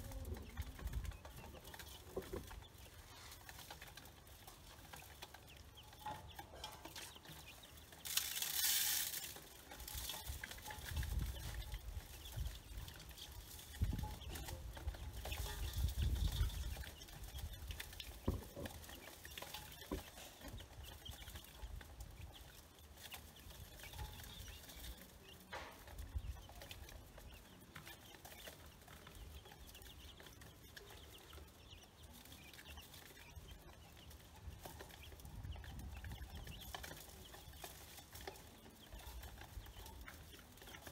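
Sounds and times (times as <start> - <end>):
chicks and ducklings peeping: 0.0 - 40.9.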